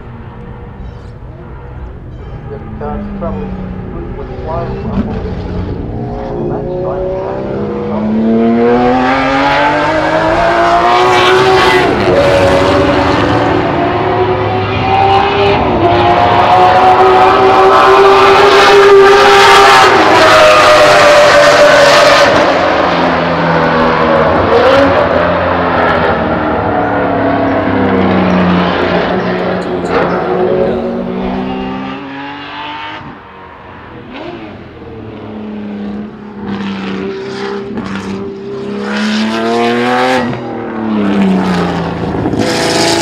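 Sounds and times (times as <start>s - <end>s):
engine accelerating hard: 0.0s - 43.0s.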